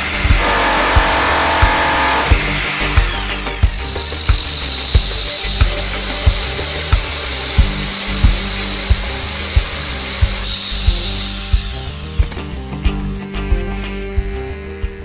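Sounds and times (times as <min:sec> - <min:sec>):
rotary hammer drill whining: 0:00.0 - 0:12.6
background music with beat: 0:00.0 - 0:15.0.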